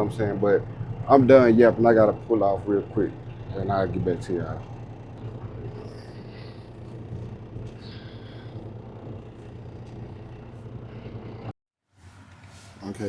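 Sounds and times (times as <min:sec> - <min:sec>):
truck engine droning: 0:00.0 - 0:11.5.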